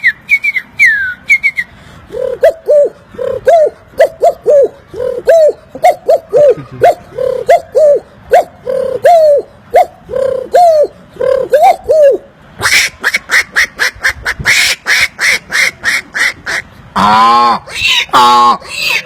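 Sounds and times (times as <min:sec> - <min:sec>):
man imitating animal calls: 0:02.1 - 0:19.0.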